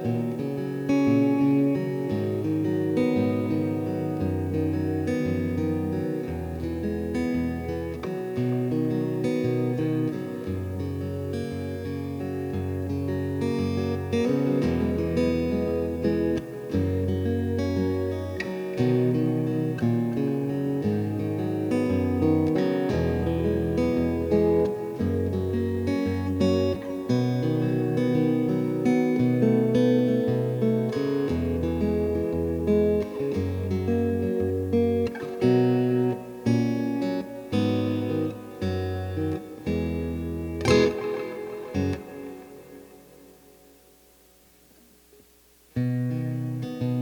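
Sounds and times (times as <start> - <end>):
guitar with reverb and delay: 0.0 - 47.0.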